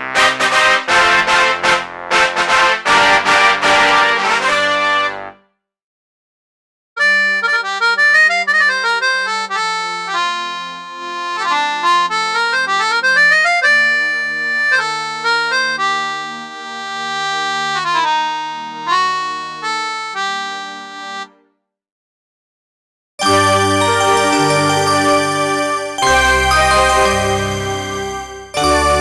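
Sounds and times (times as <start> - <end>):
synthesizer accordion-like melody: 0.0 - 5.4, 7.0 - 21.5, 23.2 - 29.0.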